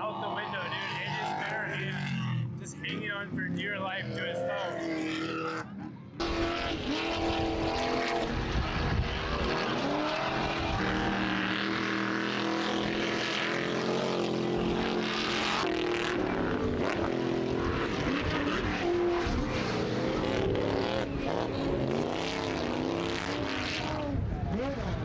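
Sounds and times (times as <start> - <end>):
racing engines revving: 0.0 - 25.0.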